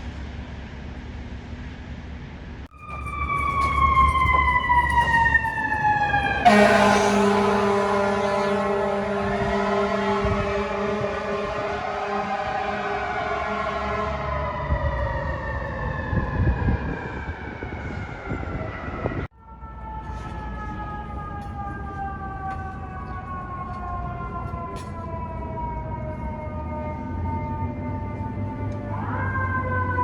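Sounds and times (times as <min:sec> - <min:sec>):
truck engine rumble: 0:00.0 - 0:30.0
fire truck siren falling in pitch: 0:02.7 - 0:30.0.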